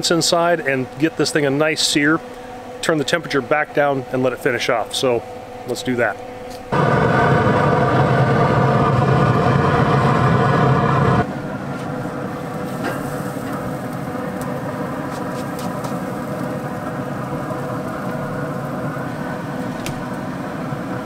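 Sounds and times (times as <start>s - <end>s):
pellet grill mechanical hum: 0.0s - 21.0s
quieter steady hum: 0.0s - 21.0s.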